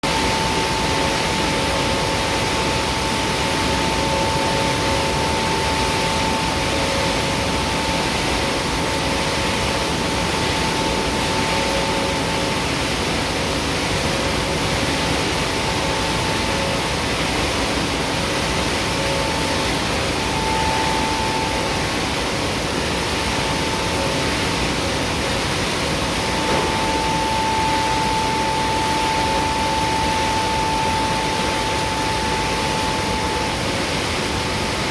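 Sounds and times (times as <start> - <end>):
high machine whine: 0.0 - 34.9
mill machinery running: 0.0 - 34.9.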